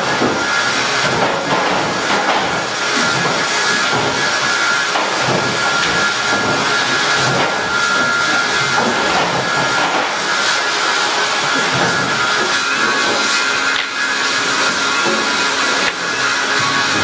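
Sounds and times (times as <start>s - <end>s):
sawmill machinery whining: 0.0s - 17.0s.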